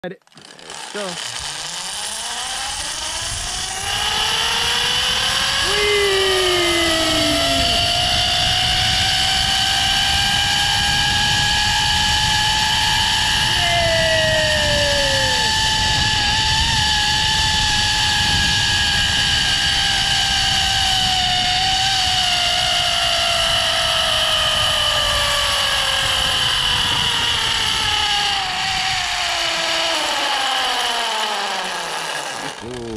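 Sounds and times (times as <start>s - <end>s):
zipline pulley wheels whining: 0.2s - 32.9s
wind on microphone: 2.7s - 31.6s.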